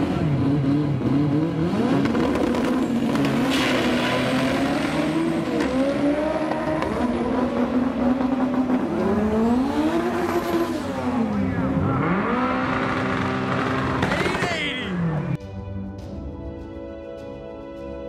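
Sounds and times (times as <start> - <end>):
drag car engine revving: 0.0 - 15.3.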